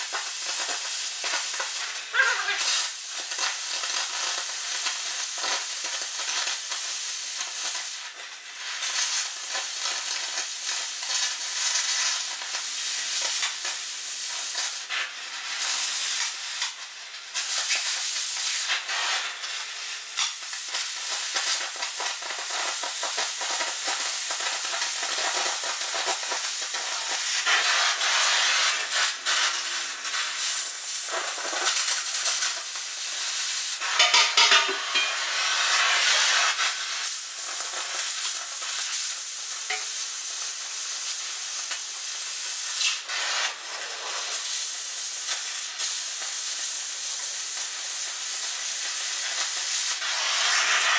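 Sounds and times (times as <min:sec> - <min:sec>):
arc gouging crackling hiss: 0:00.0 - 0:50.9.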